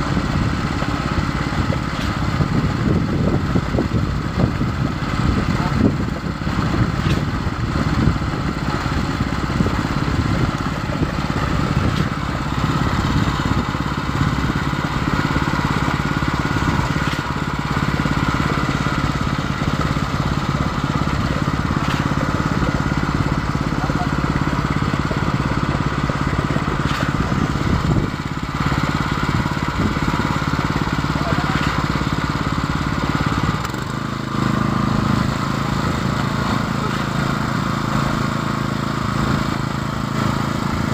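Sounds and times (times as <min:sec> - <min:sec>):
pump engine running: 0:00.0 - 0:40.9.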